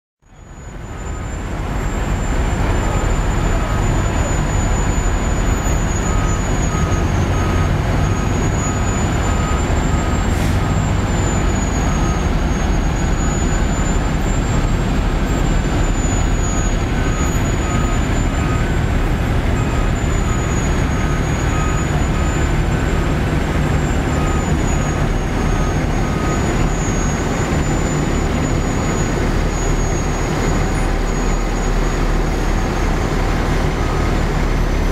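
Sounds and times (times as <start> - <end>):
fire engines idling: 0.3 - 34.9.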